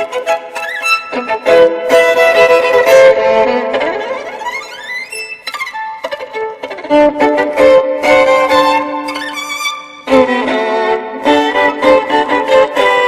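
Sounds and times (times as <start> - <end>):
violin playing held notes: 0.0 - 13.0.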